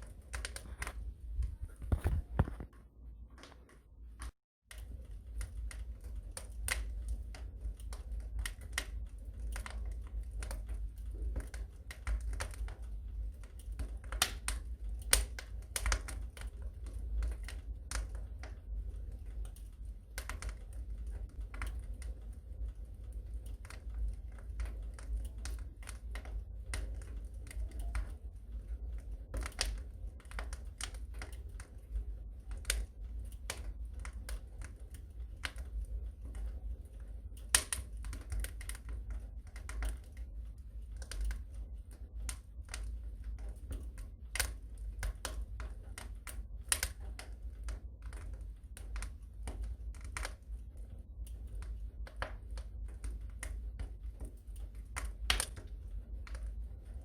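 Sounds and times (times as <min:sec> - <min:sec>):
low steady fire rumble: 0:00.0 - 0:57.0
wood fire crackling and popping: 0:00.0 - 0:57.0.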